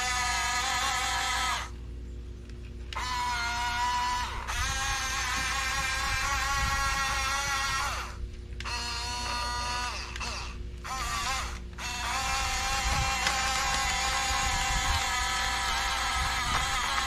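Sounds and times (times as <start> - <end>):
toy bulldozer motors whining: 0.0 - 1.8, 2.9 - 17.0.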